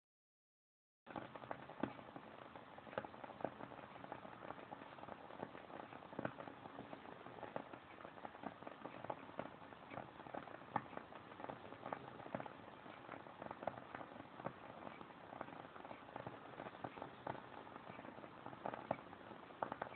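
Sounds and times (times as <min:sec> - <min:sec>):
candle crackling: 0:01.1 - 0:19.9.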